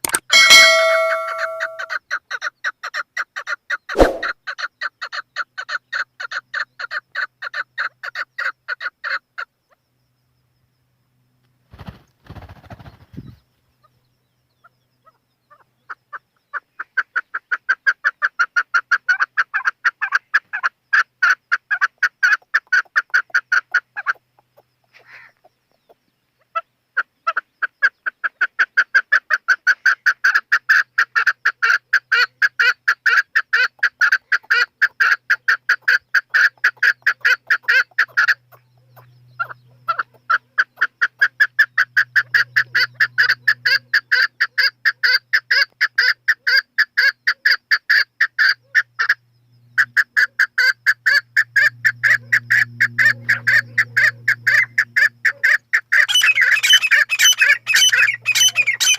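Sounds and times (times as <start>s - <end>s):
partridge clucking calls: 0.0s - 9.2s, 15.0s - 49.2s, 49.8s - 58.9s.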